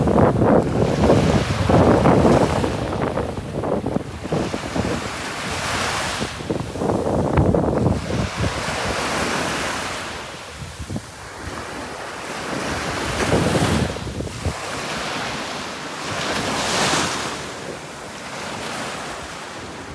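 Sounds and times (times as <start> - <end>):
wind buffeting microphone: 0.0 - 17.5
sea waves breaking on beach: 0.0 - 19.9.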